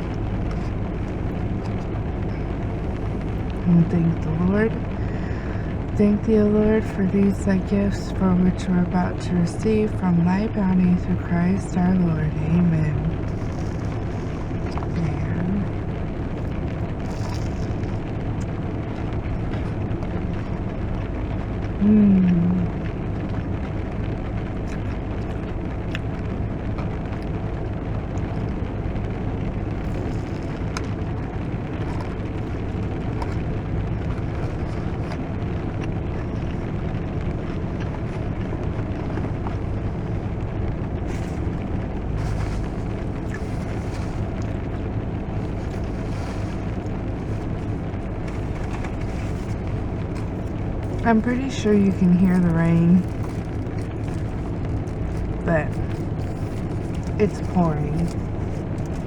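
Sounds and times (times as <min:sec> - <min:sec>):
faint low hum: 0:00.0 - 0:59.0
heavy rain on car roof: 0:00.0 - 0:59.0.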